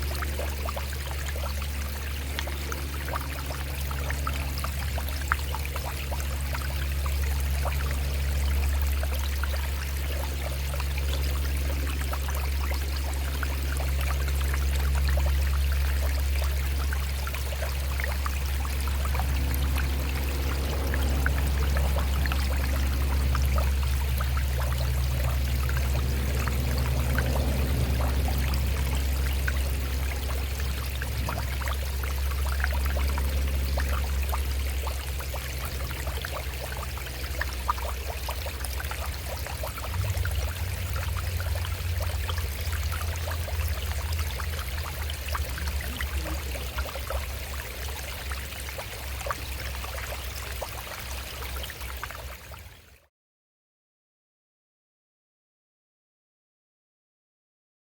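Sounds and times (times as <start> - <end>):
low rumble: 0.0 - 50.6
stream running over rocks: 0.0 - 52.9.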